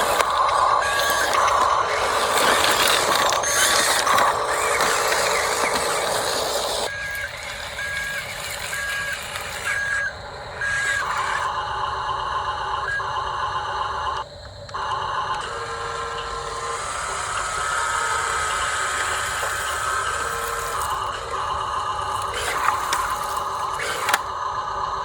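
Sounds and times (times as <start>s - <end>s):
model excavator motors whirring: 0.0s - 25.0s
steady high hum: 0.0s - 25.0s.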